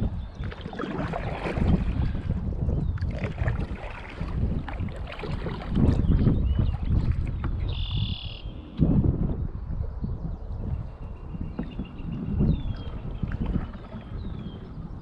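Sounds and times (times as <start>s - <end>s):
water splashing around kayak: 0.0s - 9.4s, 10.6s - 15.0s
wind buffeting microphone: 0.0s - 15.0s.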